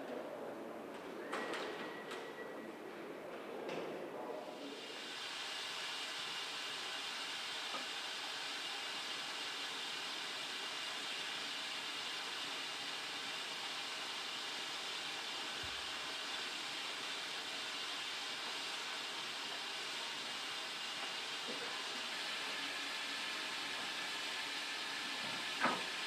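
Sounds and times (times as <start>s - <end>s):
steam locomotive hissing steam: 4.5s - 26.0s.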